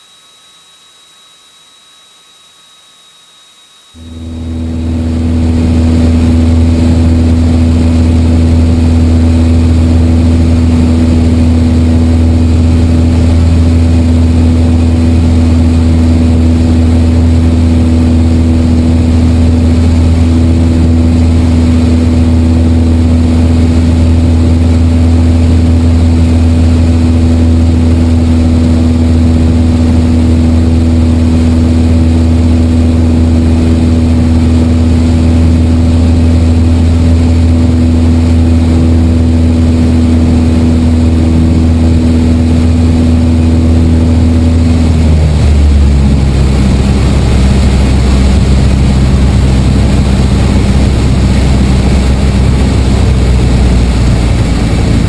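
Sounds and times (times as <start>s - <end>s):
aircraft engine and propeller droning: 3.9s - 55.0s.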